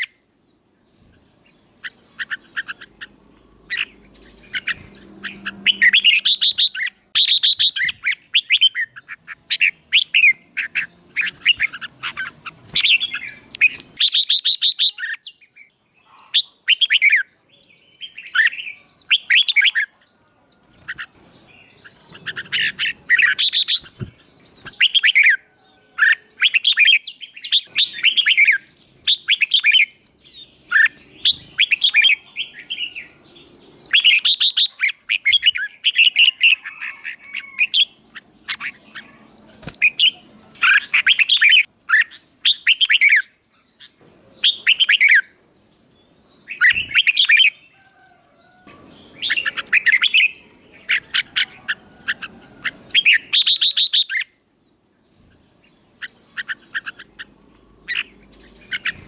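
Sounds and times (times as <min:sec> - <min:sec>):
songbird chirping and whistling: 0:00.0 - 0:45.4, 0:46.0 - 0:59.0.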